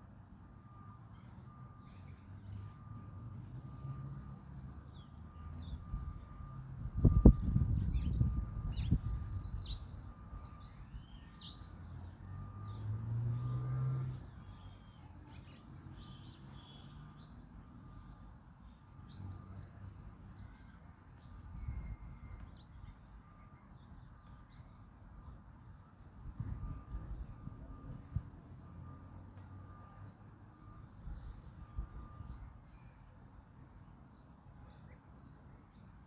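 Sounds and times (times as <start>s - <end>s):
low engine-like rumble: 0.0s - 35.7s
songbirds chirping: 0.0s - 36.0s
faint short beep: 0.5s - 33.7s.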